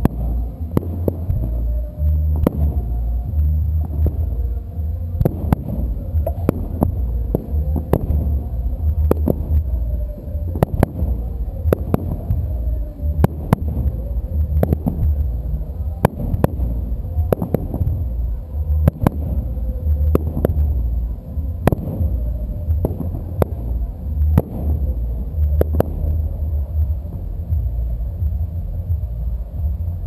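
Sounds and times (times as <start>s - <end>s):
fireworks bursting: 0.0s - 30.0s
low rumble: 0.0s - 30.0s.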